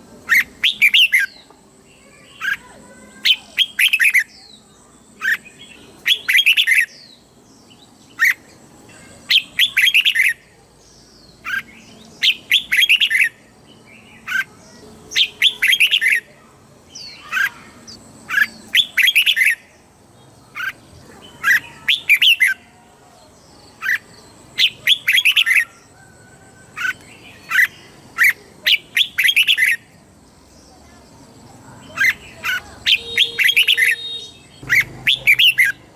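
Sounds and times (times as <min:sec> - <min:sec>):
bird chirping song: 0:00.1 - 0:35.9.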